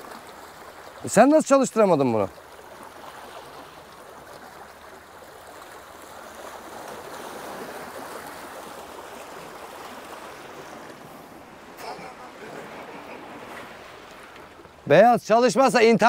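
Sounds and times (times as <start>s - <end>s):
waves washing against shore: 0.0s - 16.0s.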